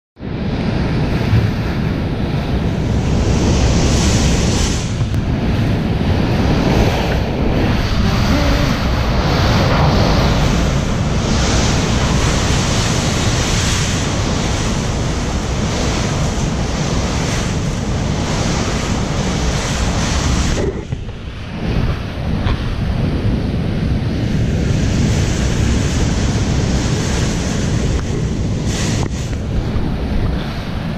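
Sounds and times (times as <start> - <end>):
hurricane winds battering house: 0.2 - 30.9.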